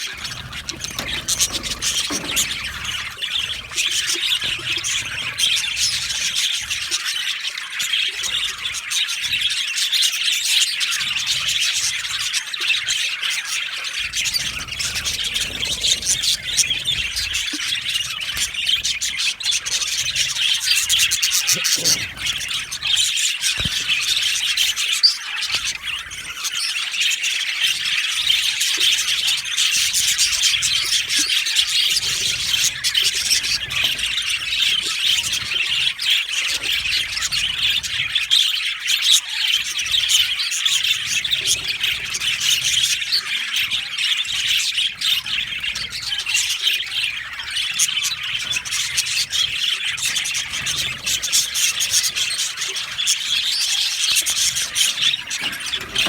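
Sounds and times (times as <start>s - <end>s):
flock of budgerigars chattering: 0.0s - 56.0s.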